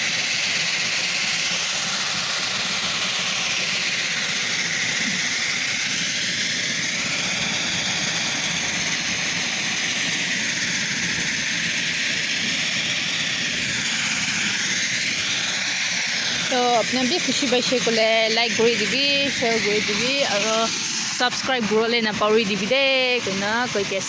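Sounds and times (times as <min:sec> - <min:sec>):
steady hiss-like rushing noise: 0:00.0 - 0:24.0.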